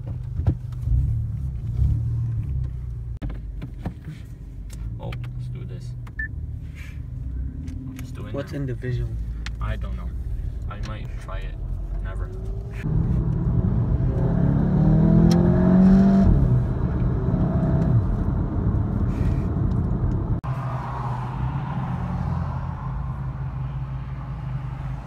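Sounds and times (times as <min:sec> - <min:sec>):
engine and road hum: 0:00.0 - 0:25.0
car engine accelerating: 0:04.7 - 0:25.0.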